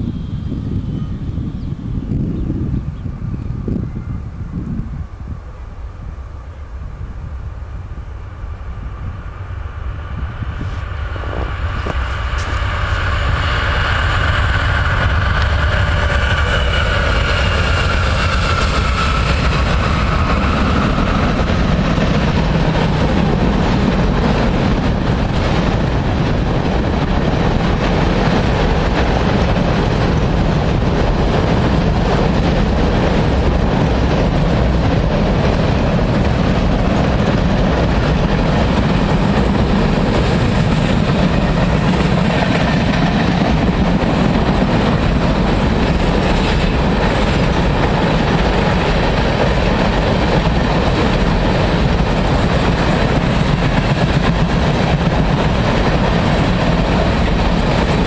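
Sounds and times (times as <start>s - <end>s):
diesel locomotives whining: 0.0s - 58.0s
train wheels rumbling on rails: 0.0s - 58.0s.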